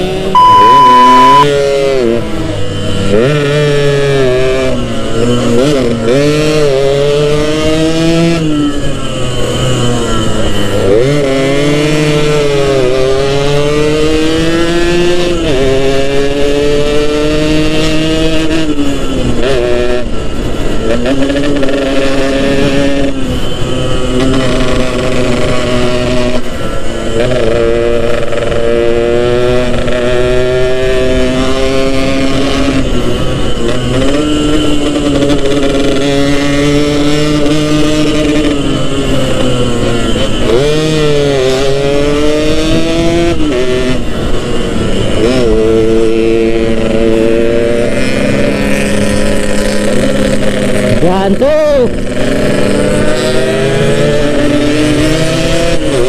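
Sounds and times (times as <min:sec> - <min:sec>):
two-stroke motorcycle revving: 0:00.0 - 0:56.0.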